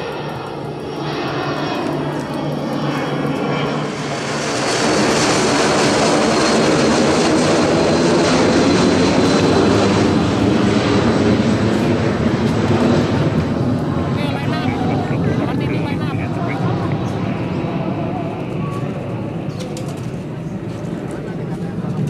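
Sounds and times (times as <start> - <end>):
high jet whine: 0.0 - 22.0
jet engines roaring overhead: 0.0 - 22.0.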